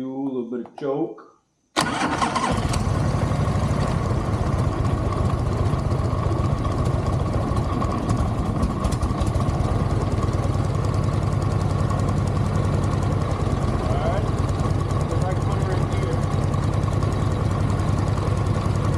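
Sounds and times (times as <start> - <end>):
motorcycle engine idling: 1.9 - 18.9.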